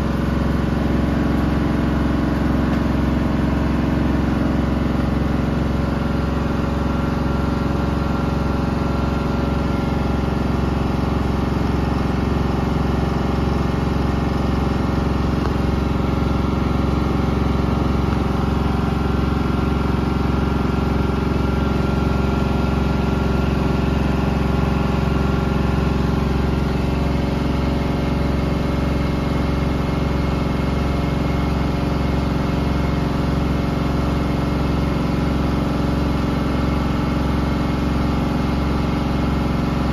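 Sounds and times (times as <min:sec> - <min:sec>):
washing machine drum hum: 0:00.0 - 0:39.9.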